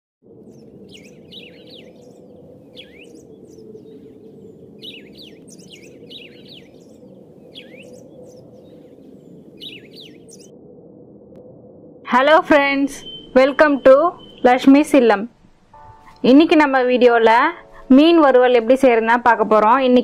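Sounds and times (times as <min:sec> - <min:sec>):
birds chirping: 0:00.4 - 0:10.5, 0:12.5 - 0:20.0.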